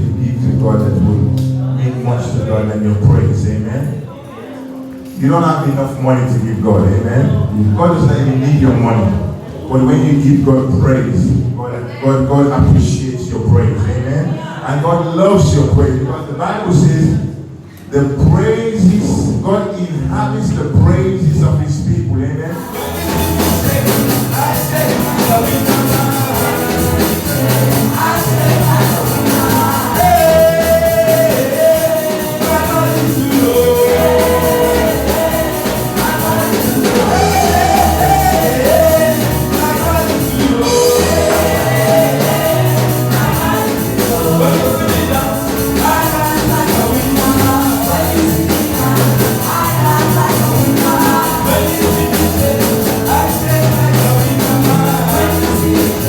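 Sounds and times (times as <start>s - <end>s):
gospel singing with band: 4.7s - 56.0s.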